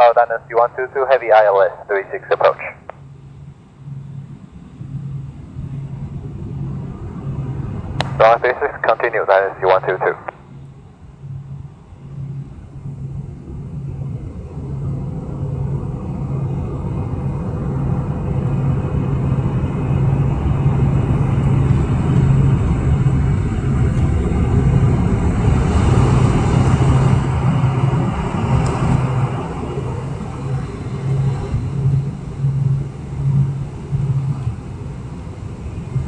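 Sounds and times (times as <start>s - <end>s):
airplane cabin engine rumble: 0.0s - 36.0s
low pulsing drone: 0.0s - 36.0s.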